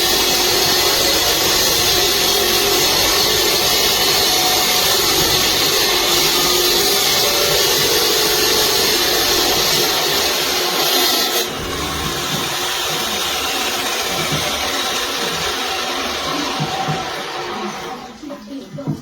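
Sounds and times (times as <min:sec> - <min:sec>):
electric concrete saw running: 0:00.0 - 0:18.4.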